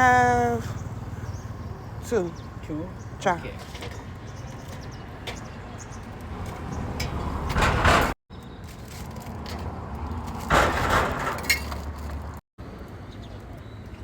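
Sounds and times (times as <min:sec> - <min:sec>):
traffic engine rumble: 0:00.0 - 0:14.0
vehicles passing close: 0:00.0 - 0:14.0.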